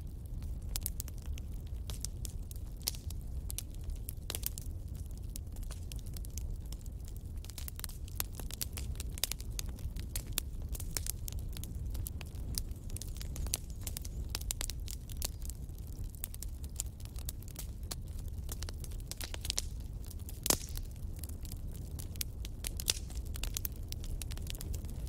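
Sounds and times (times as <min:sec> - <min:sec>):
fire crackling and popping: 0:00.0 - 0:25.0
low fire rumble: 0:00.0 - 0:25.0.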